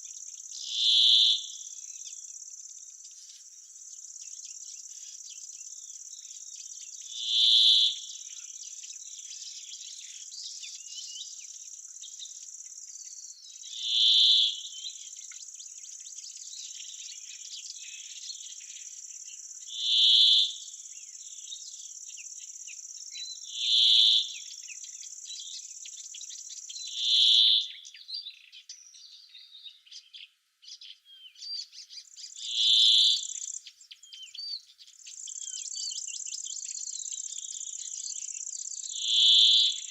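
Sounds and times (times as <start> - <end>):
crickets trilling: 0.0 - 27.7, 32.0 - 33.7, 34.9 - 39.9
faint chirps: 0.0 - 39.9.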